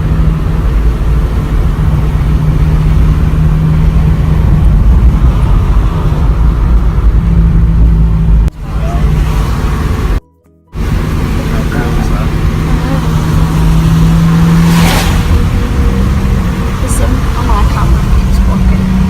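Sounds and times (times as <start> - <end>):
car engine drone: 0.0 - 19.0
road rumble: 0.0 - 19.0.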